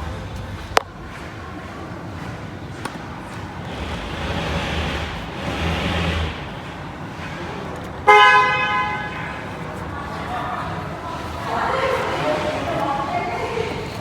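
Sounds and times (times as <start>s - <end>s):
vehicle hum: 0.0s - 14.0s.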